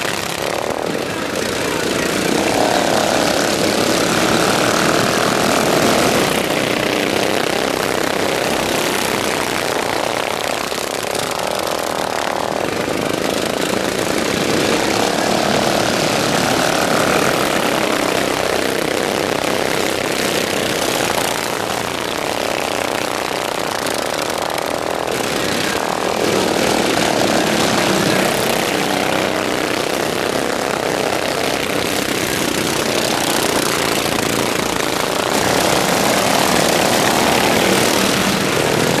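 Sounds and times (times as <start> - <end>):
lawn mower engines revving: 0.0 - 39.0.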